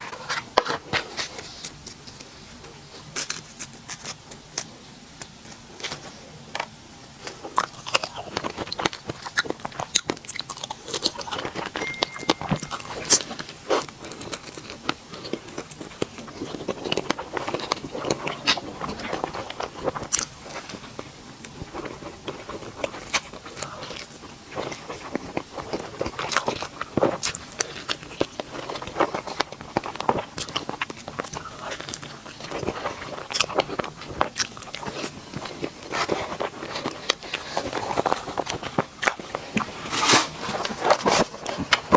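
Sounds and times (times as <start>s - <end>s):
sharp clicks and crunches: 0.0s - 41.9s
chewing sweets: 0.1s - 41.9s.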